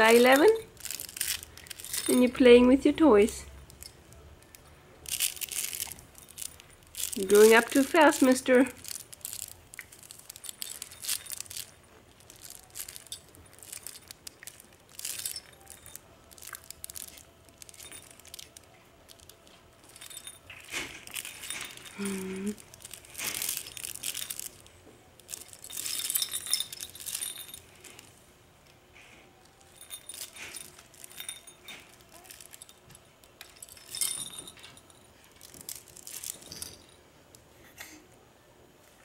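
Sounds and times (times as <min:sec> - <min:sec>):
baby toys rattling and clinking: 0:00.0 - 0:28.2, 0:29.4 - 0:37.1.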